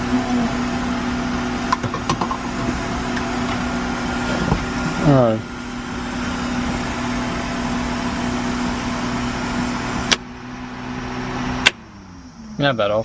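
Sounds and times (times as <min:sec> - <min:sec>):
starter motor whine: 0:00.0 - 0:13.0.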